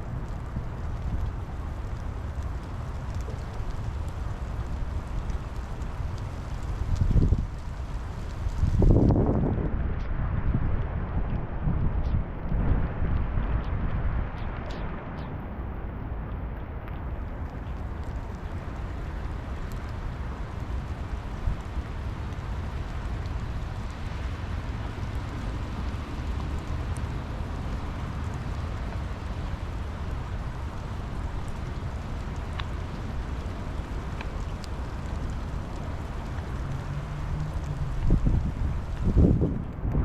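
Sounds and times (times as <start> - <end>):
rain falling: 0.0 - 9.5, 16.7 - 40.0
raindrop ticks: 0.0 - 9.6, 16.3 - 40.0
low steady hum: 0.0 - 40.0.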